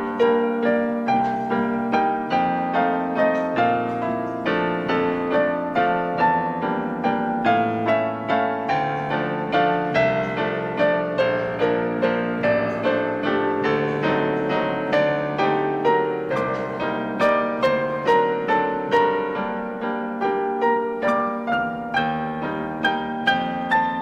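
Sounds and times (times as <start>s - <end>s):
solo piano melody: 0.0s - 24.0s.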